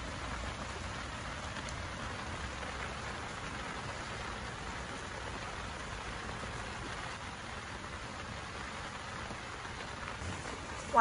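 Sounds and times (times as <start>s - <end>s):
rain falling on a tent: 0.0s - 11.0s.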